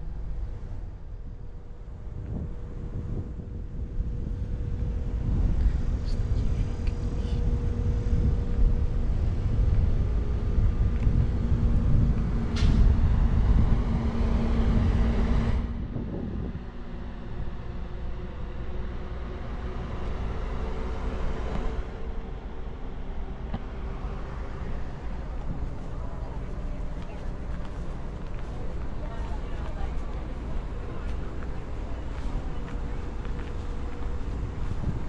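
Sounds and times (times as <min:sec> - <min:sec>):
wind noise on microphone: 0:00.0 - 0:22.1, 0:23.7 - 0:35.0
bus equipment hum and whir: 0:00.0 - 0:35.0.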